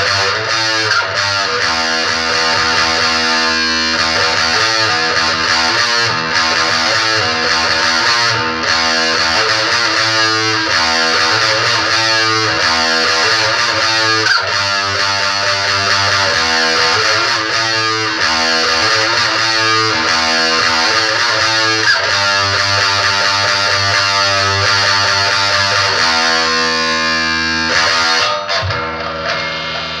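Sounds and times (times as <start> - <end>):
distorted electric guitar chords: 0.0 - 30.0.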